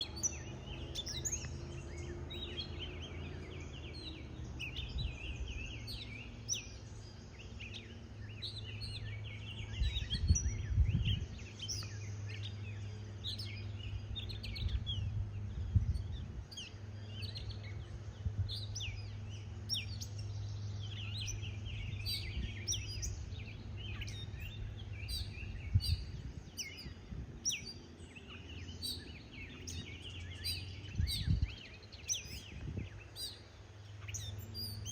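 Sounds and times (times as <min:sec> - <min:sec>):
low hum: 0:00.0 - 0:34.9
small birds chirping: 0:00.0 - 0:34.9.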